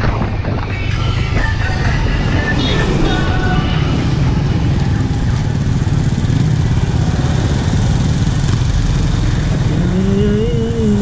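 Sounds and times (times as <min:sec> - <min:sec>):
road and wind rumble: 0:00.0 - 0:11.0
motorcycle engine running: 0:01.8 - 0:11.0.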